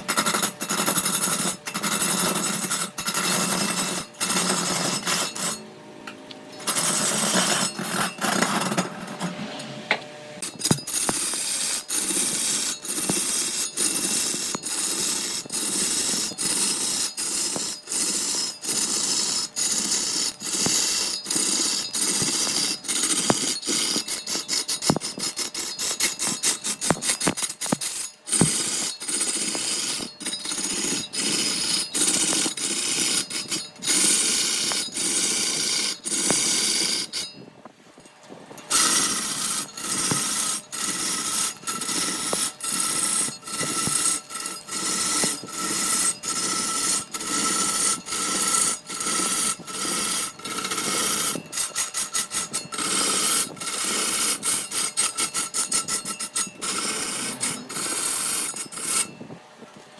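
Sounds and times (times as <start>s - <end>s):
woodworking tool working wood: 0.0s - 59.4s.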